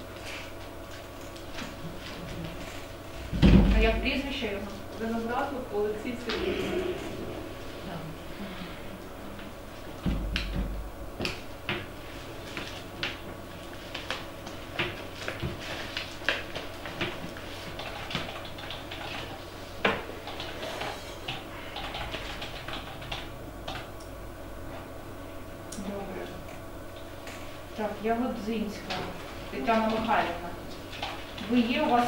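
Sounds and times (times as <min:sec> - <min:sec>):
room hum: 0:00.0 - 0:32.0.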